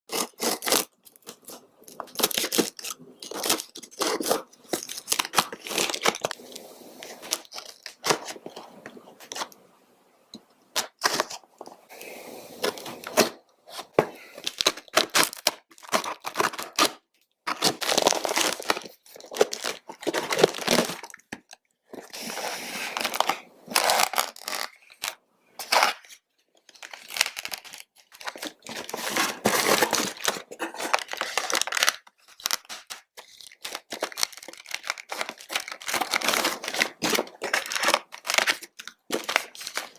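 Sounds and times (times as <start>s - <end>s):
packaging tearing and crinkling: 0.1s - 8.6s, 10.8s - 11.4s, 12.6s - 39.9s.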